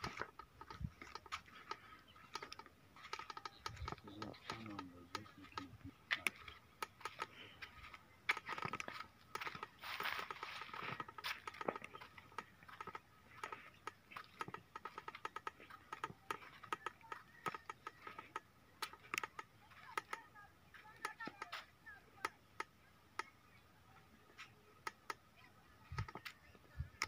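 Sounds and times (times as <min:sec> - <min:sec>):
faint clicking and crackling: 0:00.0 - 0:27.0.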